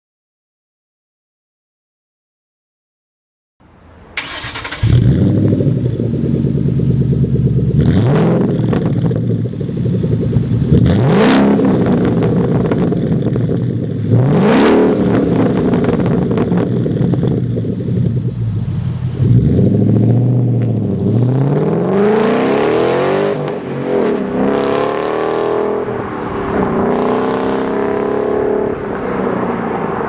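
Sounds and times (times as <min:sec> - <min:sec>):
car engine starting and revving: 0:03.8 - 0:30.0.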